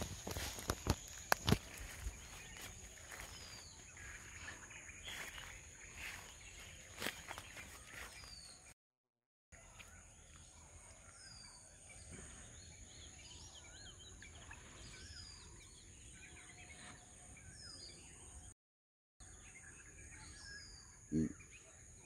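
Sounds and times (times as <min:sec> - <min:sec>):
birds chirping: 0:00.0 - 0:08.8, 0:09.6 - 0:18.6, 0:19.2 - 0:22.0.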